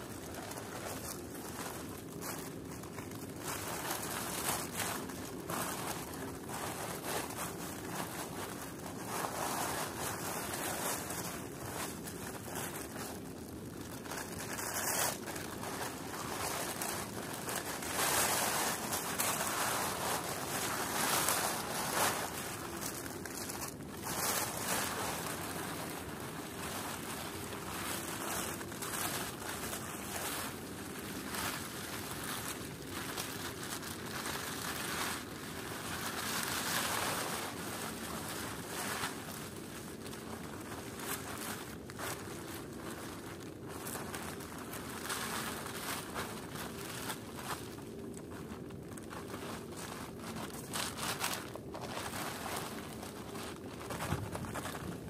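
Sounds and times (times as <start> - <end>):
plastic sheet rustling: 0.0 - 55.0.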